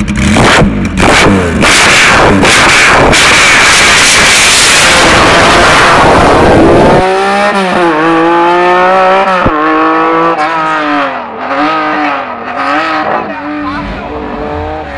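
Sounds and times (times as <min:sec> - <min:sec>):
sports car engine revving: 0:00.0 - 0:14.9.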